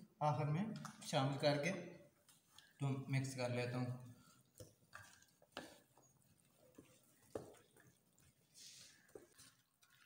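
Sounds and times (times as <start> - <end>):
moist food squishing: 0.7 - 10.0.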